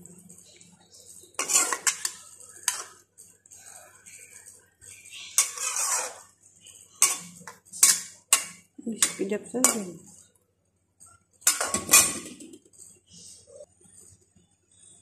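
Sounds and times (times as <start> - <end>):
utensil scraping against a pot: 0.5 - 10.3, 11.1 - 14.1.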